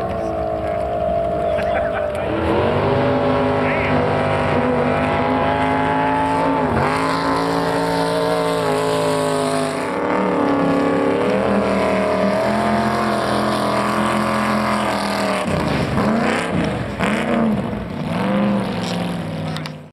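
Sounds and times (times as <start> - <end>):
racing boat engine at high revs: 0.0 - 19.9.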